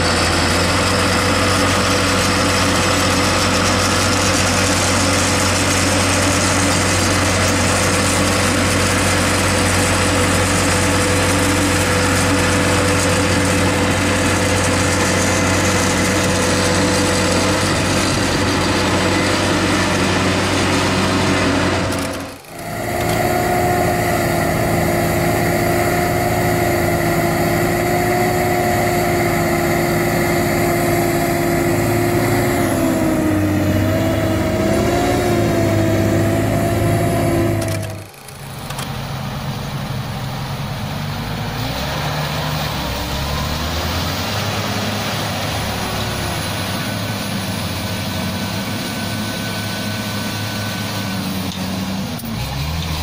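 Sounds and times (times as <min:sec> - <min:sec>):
tractor engine deep hum: 0:00.0 - 0:53.0
tractor engine high whine: 0:00.0 - 0:53.0.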